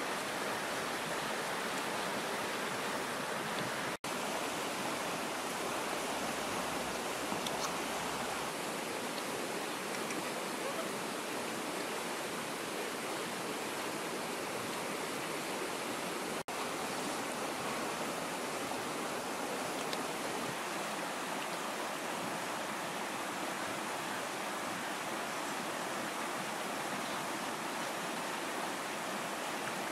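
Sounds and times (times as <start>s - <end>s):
river water rushing over rocks: 0.0s - 29.9s.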